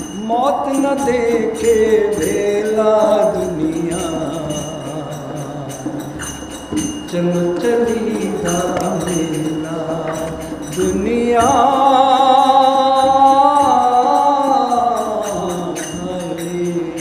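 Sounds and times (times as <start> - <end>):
jingling percussion: 0.0 - 17.0.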